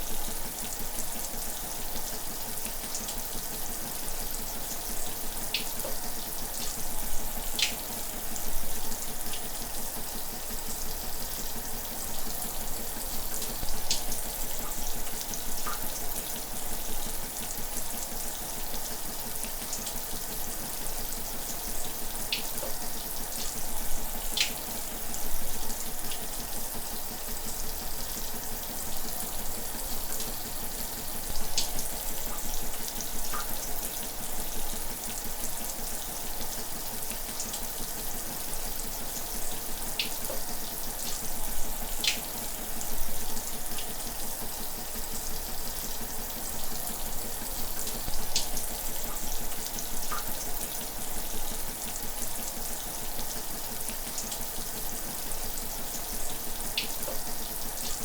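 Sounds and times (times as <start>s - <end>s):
shower spraying water: 0.0s - 58.0s.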